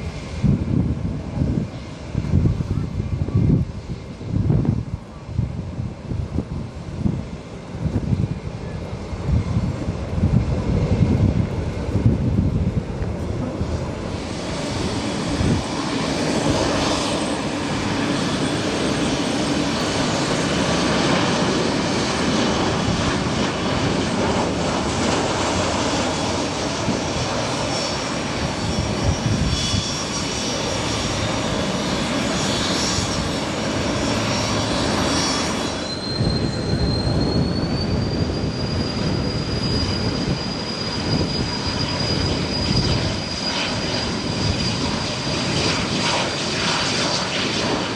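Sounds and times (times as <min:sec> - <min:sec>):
high engine whine: 0:00.0 - 0:47.9
jet engines rumbling: 0:00.0 - 0:47.9.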